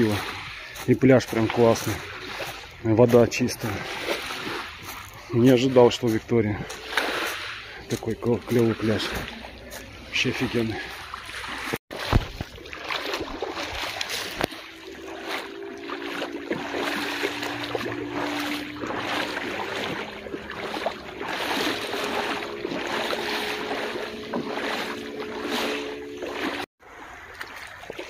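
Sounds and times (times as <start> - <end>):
motorboat engine humming: 0.0 - 28.0
sea waves on pebble beach: 0.0 - 28.0.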